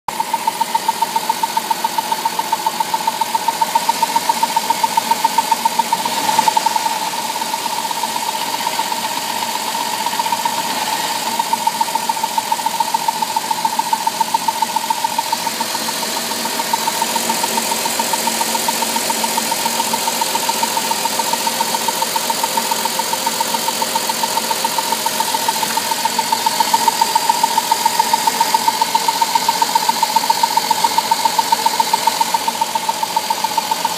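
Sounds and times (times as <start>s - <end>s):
car engine running: 0.1s - 33.9s
rhythmic engine ticking: 0.1s - 33.9s.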